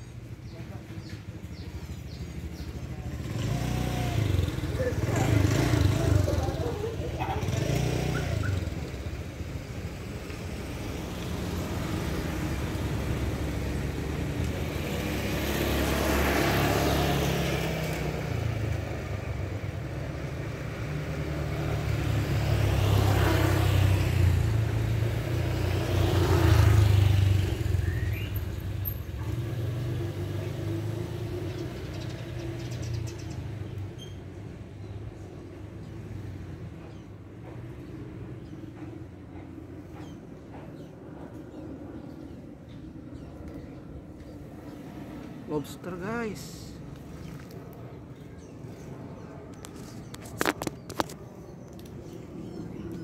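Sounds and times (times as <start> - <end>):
road traffic rumble: 0.0 - 53.0
vehicles passing by: 0.0 - 53.0.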